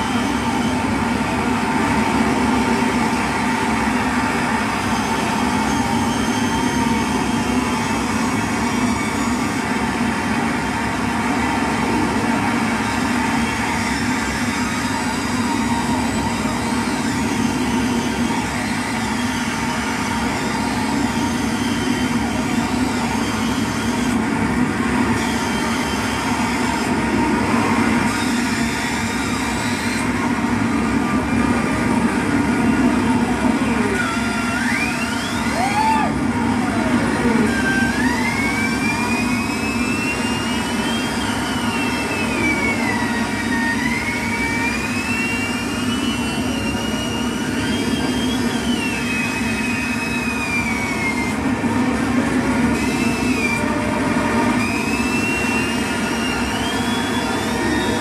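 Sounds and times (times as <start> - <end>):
electronic drone and noise: 0.0 - 58.0.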